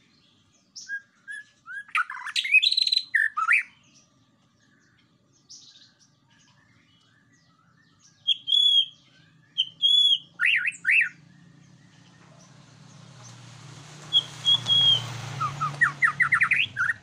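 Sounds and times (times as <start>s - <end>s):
bird singing whistled notes: 0.0s - 13.4s, 14.0s - 17.0s.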